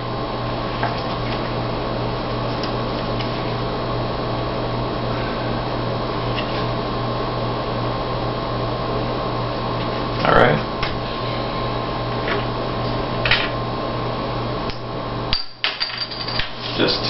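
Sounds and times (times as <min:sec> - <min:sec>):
fan humming and hissing: 0:00.0 - 0:17.0.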